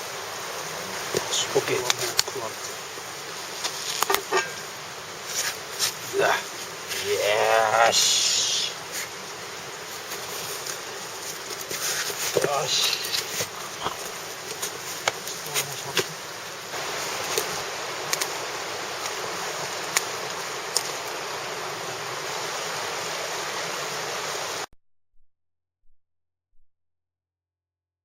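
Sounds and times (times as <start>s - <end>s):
campfire hissing and popping: 0.0s - 24.7s.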